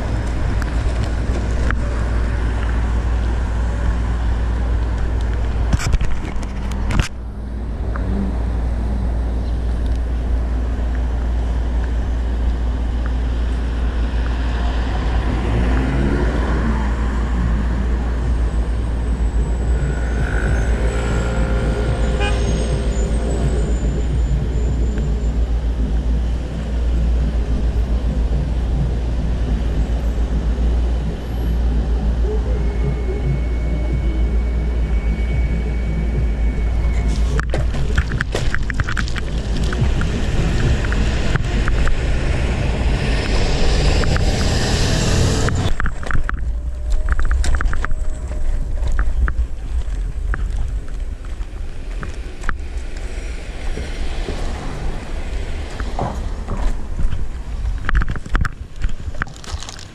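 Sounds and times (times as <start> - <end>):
cars passing: 0.0 - 59.9
low traffic rumble: 0.0 - 59.9.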